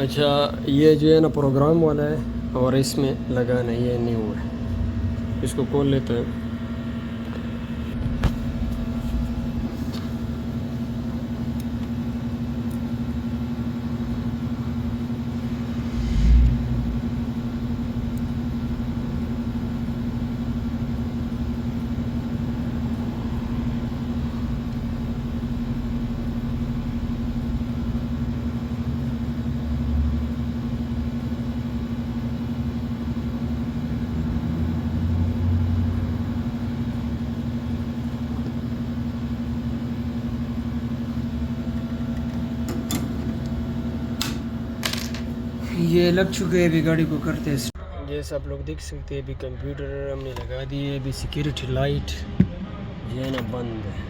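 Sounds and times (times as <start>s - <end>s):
machine hum with low rumble: 0.0s - 54.0s.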